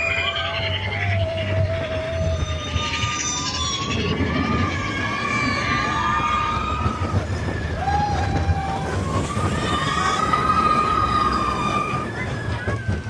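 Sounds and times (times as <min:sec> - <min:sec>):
roller coaster rumbling on track: 0:00.0 - 0:13.0
wheels squealing: 0:00.0 - 0:13.0.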